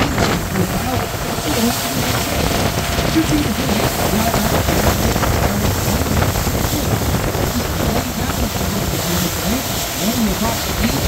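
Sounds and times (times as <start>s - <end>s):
boat engine running: 0.0s - 11.0s
water noise against boat: 0.0s - 11.0s
wind rush: 0.0s - 11.0s.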